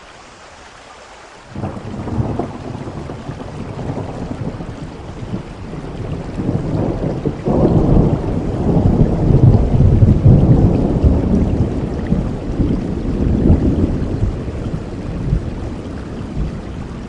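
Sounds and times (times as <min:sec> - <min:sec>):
steady rain: 0:00.0 - 0:17.0
thunder rumbling: 0:01.5 - 0:17.0.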